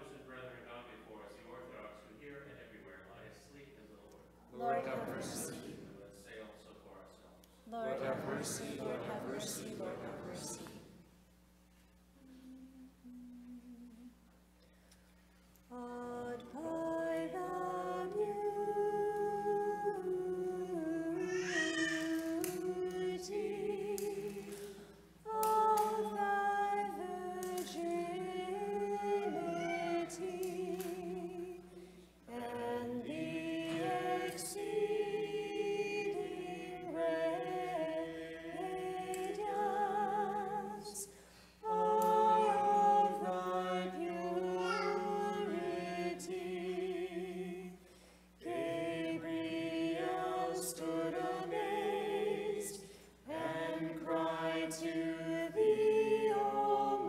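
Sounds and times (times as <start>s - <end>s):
group singing a cappella hymn: 4.5s - 6.0s, 7.6s - 11.0s, 15.7s - 57.0s.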